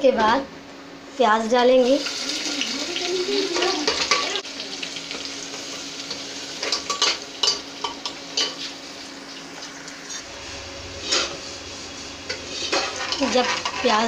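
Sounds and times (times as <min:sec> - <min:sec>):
onion sizzling in hot oil: 0:01.4 - 0:14.0.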